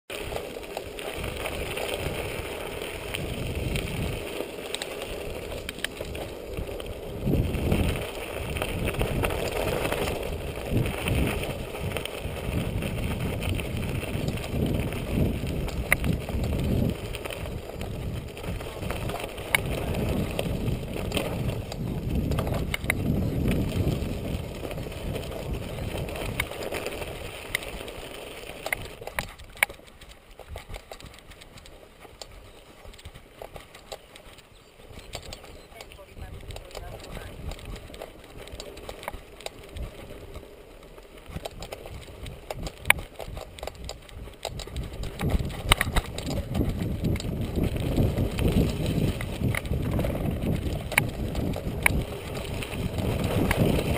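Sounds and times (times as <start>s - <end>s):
bike clicks and rattles: 0.1s - 53.9s
bike tyres on gravel: 0.1s - 53.9s
wind buffeting microphone: 1.1s - 4.2s, 5.1s - 27.9s, 28.6s - 40.4s, 41.2s - 53.9s.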